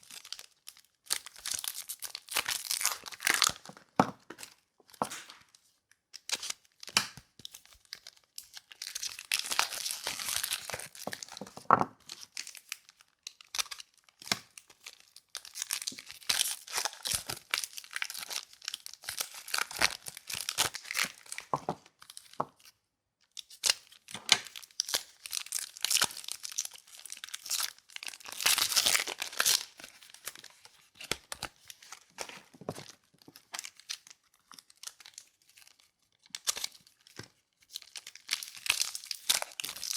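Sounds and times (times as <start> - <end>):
packaging tearing and crinkling: 0.0 - 4.0, 6.2 - 22.7, 23.4 - 39.9.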